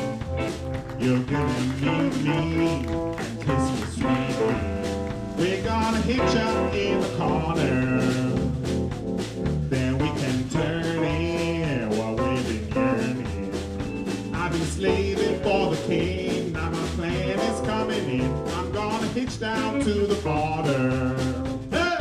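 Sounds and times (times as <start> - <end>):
blues band playing: 0.0 - 22.0.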